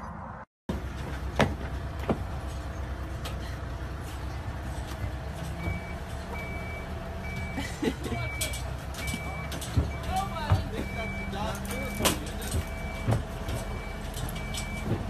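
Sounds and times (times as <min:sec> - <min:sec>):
horse trailer rumbling: 0:00.7 - 0:15.0.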